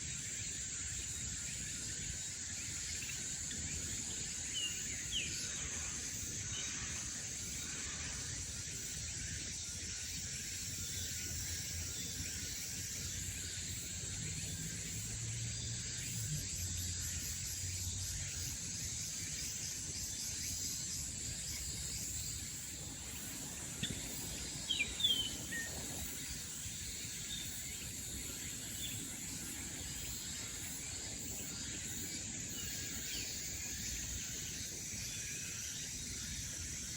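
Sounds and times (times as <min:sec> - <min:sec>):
high-pitched insect drone: 0:00.0 - 0:36.9.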